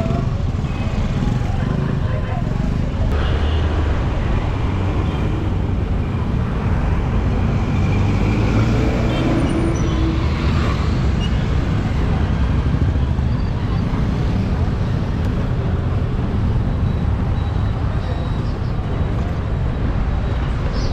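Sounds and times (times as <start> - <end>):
vehicle engine and road rumble: 0.0 - 20.9.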